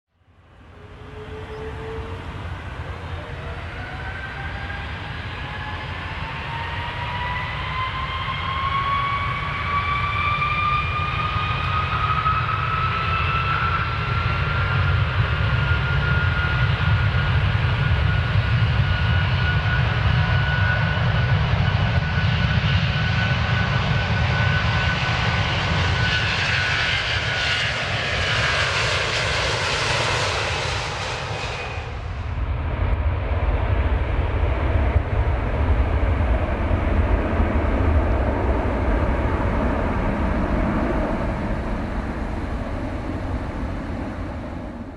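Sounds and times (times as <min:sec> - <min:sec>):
airplane engines whining: 0:00.2 - 0:44.9.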